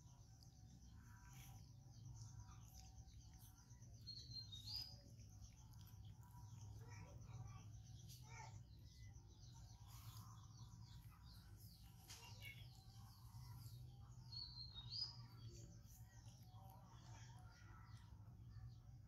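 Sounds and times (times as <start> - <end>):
bird chirps and twittering: 0.1 - 19.0.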